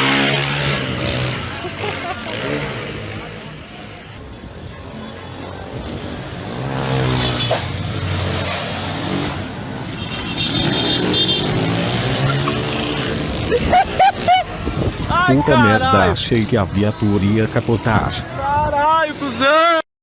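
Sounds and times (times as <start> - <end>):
vehicle engines revving hard: 0.0 - 18.4.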